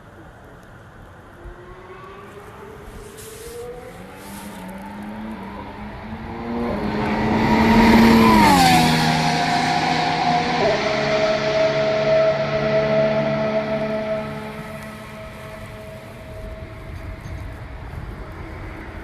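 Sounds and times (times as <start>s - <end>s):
racing car passing by: 1.3s - 19.0s.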